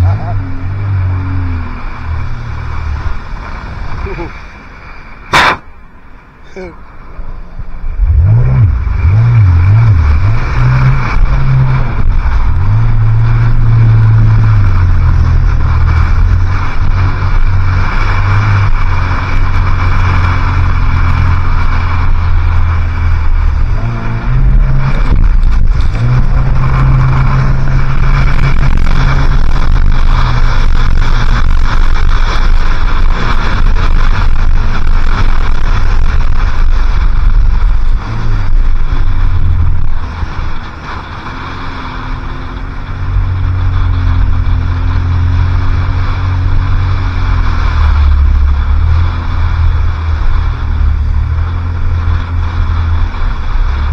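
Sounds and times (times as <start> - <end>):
wind: 0.0 - 53.9.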